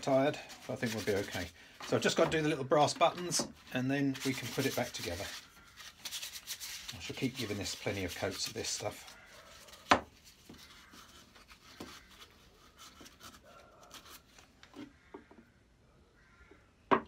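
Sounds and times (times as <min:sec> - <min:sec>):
brush rubbing on wood: 0:00.0 - 0:14.5.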